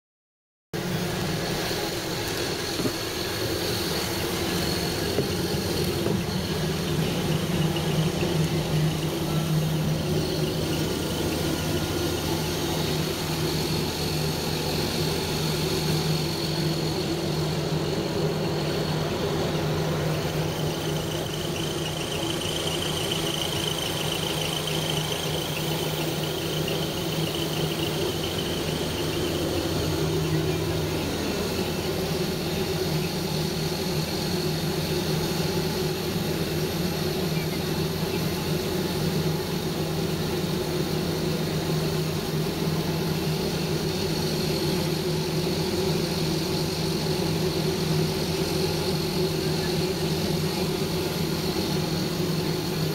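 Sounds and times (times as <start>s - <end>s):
aircraft and vehicle engines droning: 0.8s - 52.9s.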